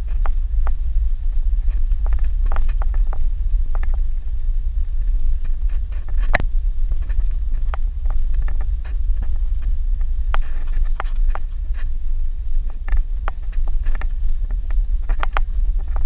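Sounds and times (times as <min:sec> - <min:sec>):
vehicle rumbling on dirt road: 0:00.0 - 0:16.0.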